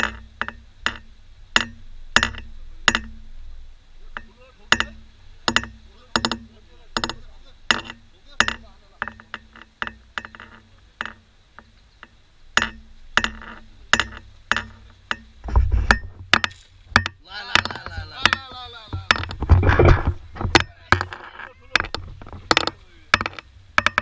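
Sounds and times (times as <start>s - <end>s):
sharp clicks and knocks: 0.0s - 3.3s, 4.0s - 24.0s.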